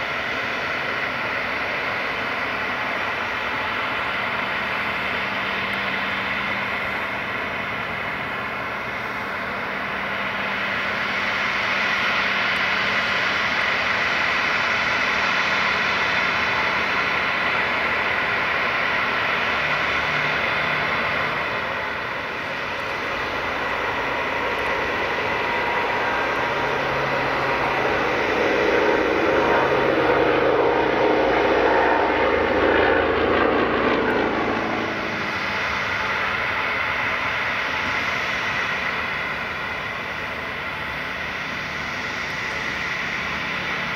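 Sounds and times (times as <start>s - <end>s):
jet engines whining: 0.0s - 43.9s
propeller aircraft engine drone: 0.0s - 43.9s.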